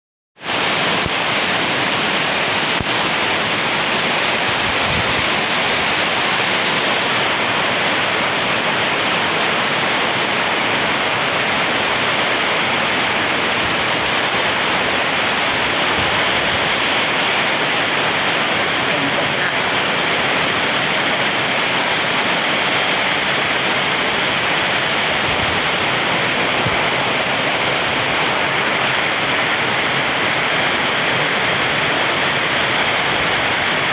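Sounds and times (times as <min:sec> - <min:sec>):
heavy rain: 0:00.4 - 0:33.9.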